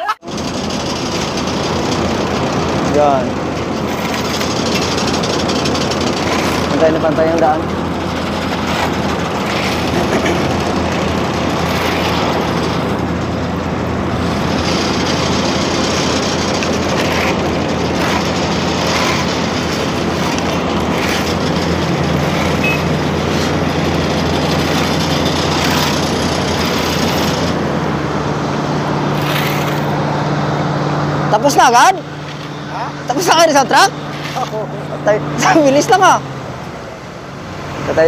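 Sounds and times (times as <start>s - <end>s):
heavy diesel engines running: 0.1s - 38.0s.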